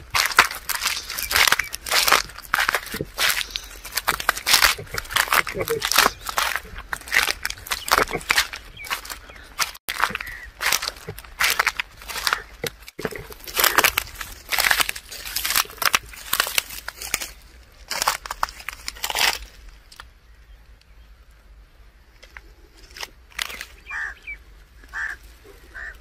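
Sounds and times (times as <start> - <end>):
footsteps crunching through stubble: 0.0 - 20.3, 22.0 - 26.0.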